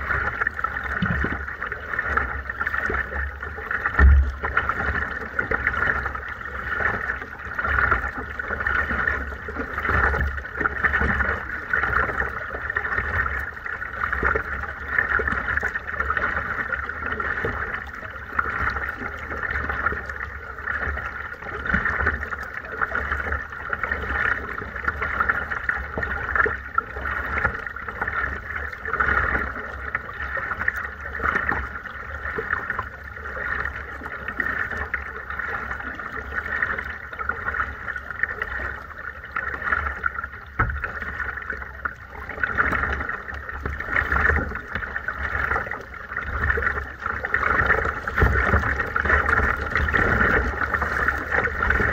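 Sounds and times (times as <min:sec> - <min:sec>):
low steady rumble: 0:00.0 - 0:51.9
water gurgling against kayak: 0:00.0 - 0:51.9.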